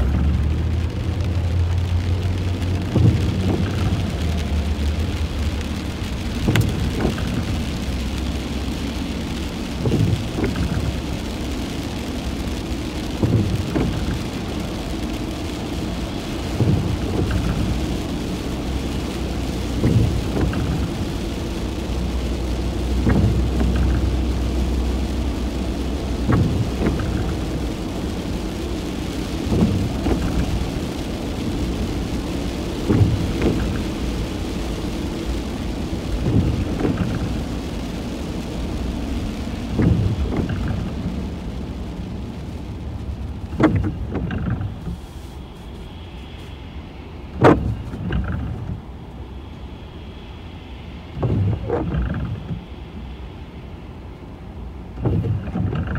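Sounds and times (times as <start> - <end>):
car engine idling: 0.0 - 46.6
rain pattering on windscreen: 0.0 - 55.9
windscreen wipers sweeping: 0.0 - 55.9.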